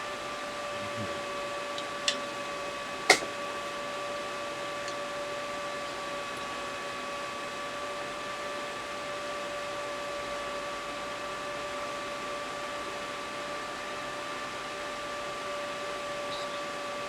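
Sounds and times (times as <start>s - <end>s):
small fan hissing and whining: 0.0s - 17.0s.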